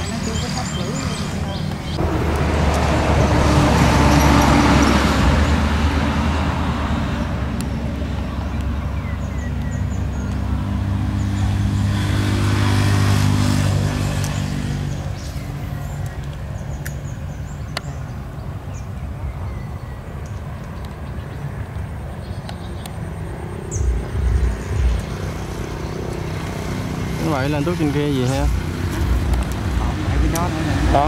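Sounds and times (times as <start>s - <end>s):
motor engine humming: 0.0s - 18.6s, 20.7s - 31.0s.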